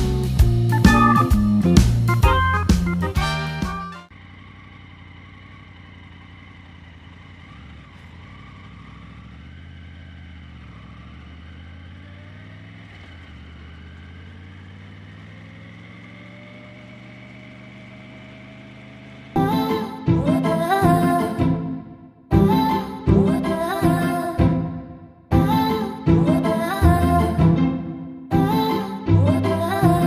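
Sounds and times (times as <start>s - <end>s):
motorcycle engine running: 0.0s - 24.6s.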